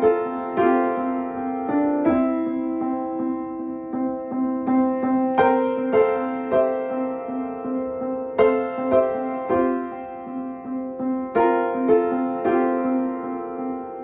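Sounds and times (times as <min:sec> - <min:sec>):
slow electric piano music: 0:00.0 - 0:14.0.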